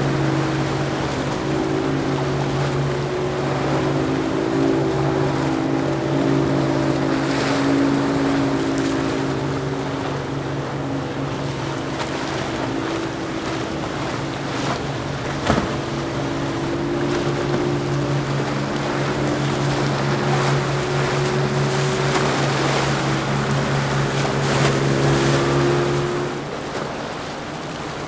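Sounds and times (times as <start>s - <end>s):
motorboat engines droning: 0.0s - 28.0s
rushing water and wave wash: 0.0s - 28.0s.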